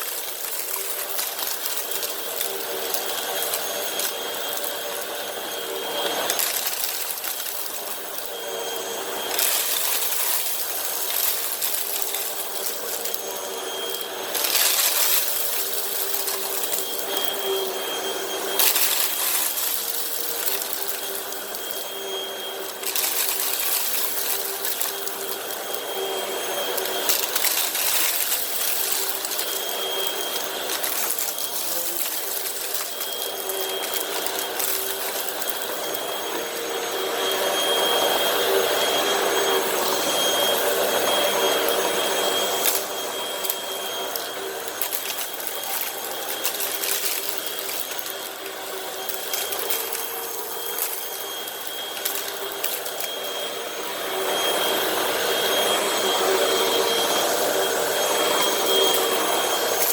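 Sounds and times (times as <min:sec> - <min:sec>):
debris rattling in vacuum: 0:00.0 - 0:59.9
upright vacuum motor: 0:00.0 - 0:59.9.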